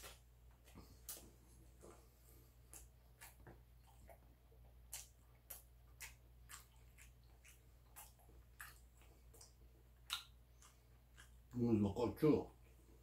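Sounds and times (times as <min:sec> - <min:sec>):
person chewing food: 0:00.0 - 0:11.6.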